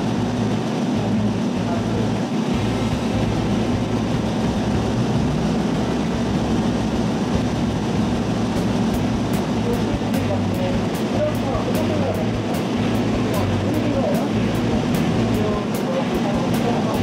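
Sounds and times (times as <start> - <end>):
diesel engine idling hum: 0.0 - 17.0.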